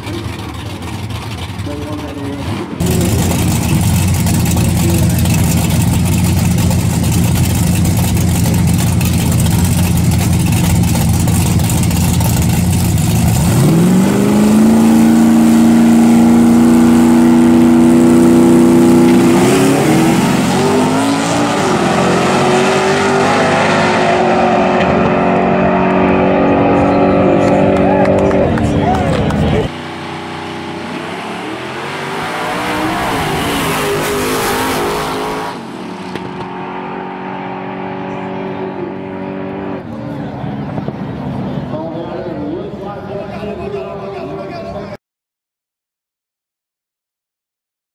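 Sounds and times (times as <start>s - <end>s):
drag racing engines revving: 0.0s - 44.6s.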